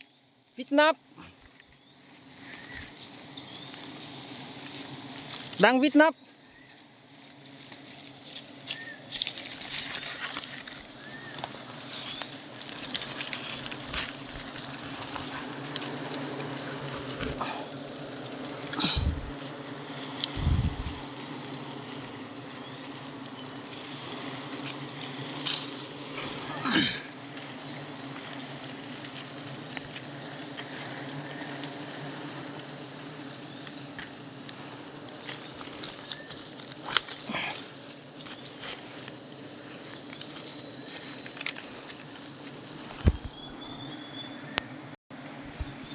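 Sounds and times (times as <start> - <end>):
high insect whine: 0.0 - 45.9
honeybees buzzing: 0.0 - 45.9.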